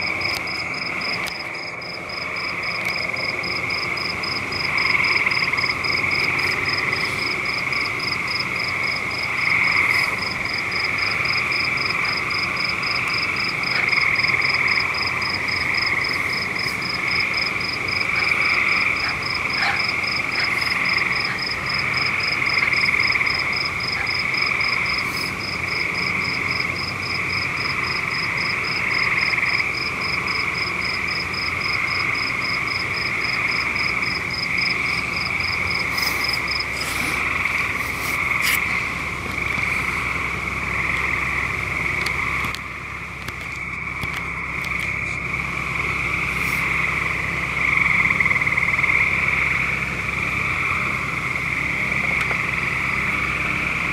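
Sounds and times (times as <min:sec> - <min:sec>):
chorus of calling frogs: 0:00.0 - 0:53.9.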